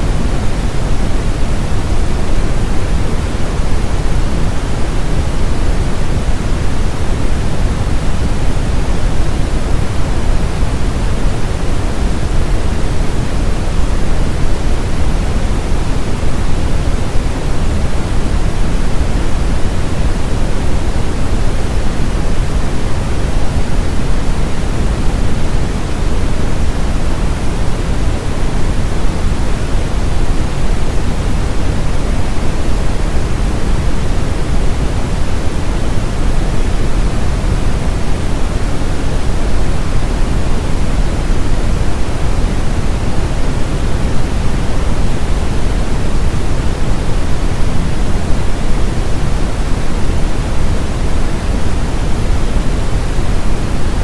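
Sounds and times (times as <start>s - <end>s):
brown noise hiss-rumble: 0.0s - 54.0s.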